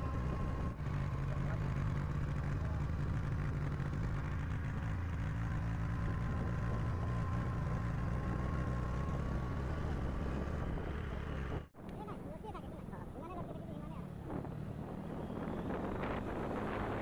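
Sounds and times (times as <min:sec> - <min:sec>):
motorcycle engine running: 0:00.0 - 0:12.0, 0:12.8 - 0:17.0.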